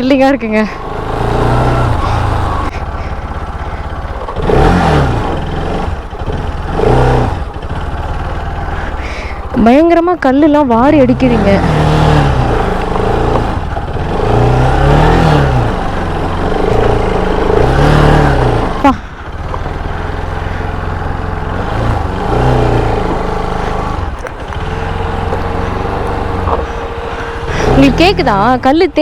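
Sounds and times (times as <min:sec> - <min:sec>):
motorcycle engine revving: 0:00.0 - 0:29.0
stones grinding under tyres: 0:00.0 - 0:29.0.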